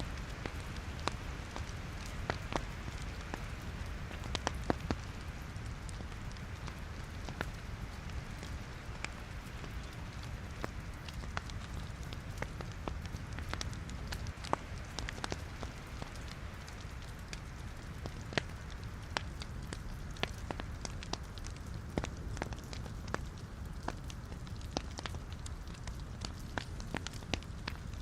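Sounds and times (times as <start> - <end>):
logs crackling in fireplace: 0.0 - 28.0
low rumble of flames: 0.0 - 28.0.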